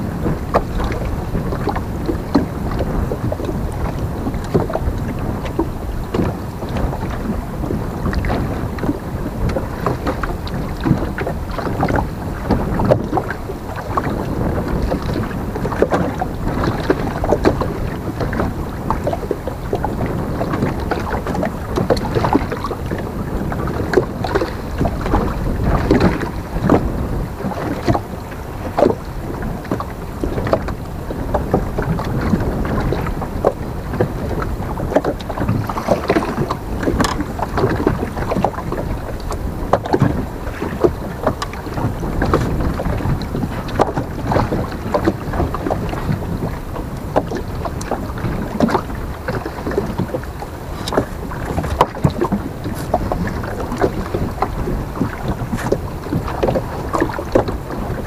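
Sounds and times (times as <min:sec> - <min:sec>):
waves lapping against boat hull: 0:00.0 - 0:58.0
wind on microphone: 0:00.0 - 0:58.0.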